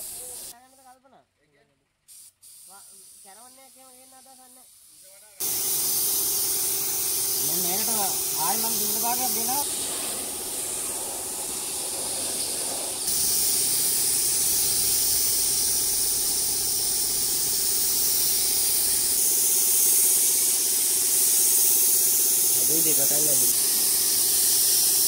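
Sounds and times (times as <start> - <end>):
spray gun hissing: 0.0 - 0.6, 2.1 - 25.0.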